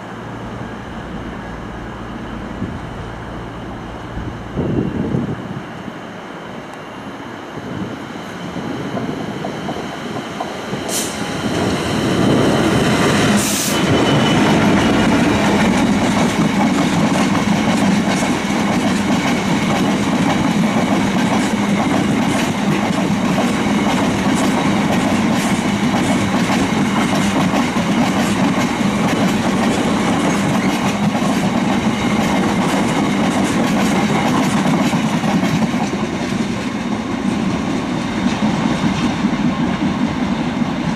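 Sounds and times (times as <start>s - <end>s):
diesel train engine drone: 0.0s - 40.9s.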